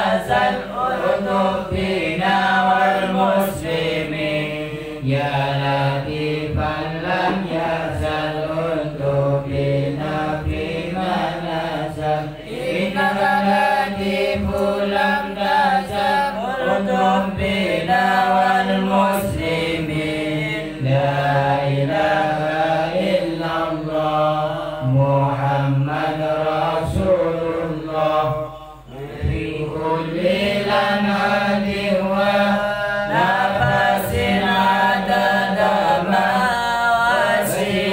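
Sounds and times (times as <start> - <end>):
men chanting: 0.0 - 37.9.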